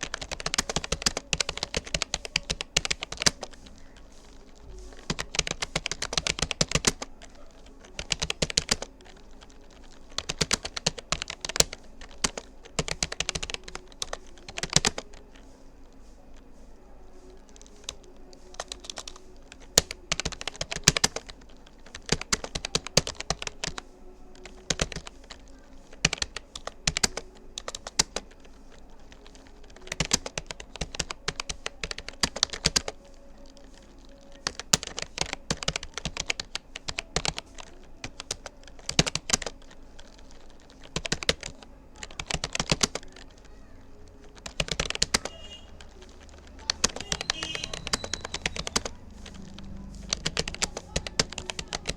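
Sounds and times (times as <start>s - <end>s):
fast typing on a keyboard: 0.0s - 16.5s, 17.1s - 51.9s.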